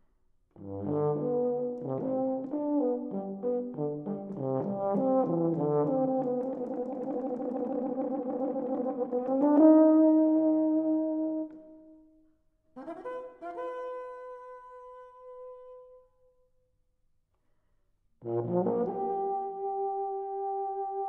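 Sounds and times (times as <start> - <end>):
euphonium solo: 0.8 - 11.6, 12.8 - 16.1, 18.2 - 21.0.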